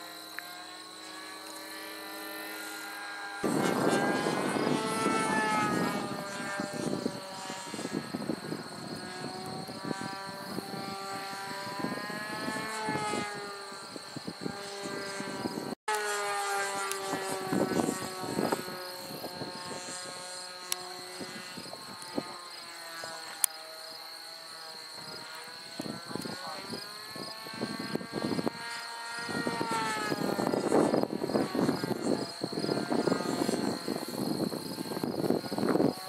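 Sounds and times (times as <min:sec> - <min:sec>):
model airplane engine buzzing: 0:00.0 - 0:36.0.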